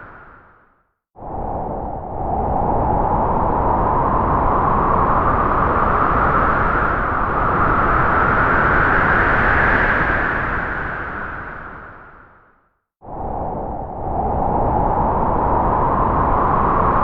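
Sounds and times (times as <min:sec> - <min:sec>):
strong wind gust whistling: 0:01.2 - 0:11.8, 0:13.1 - 0:17.0.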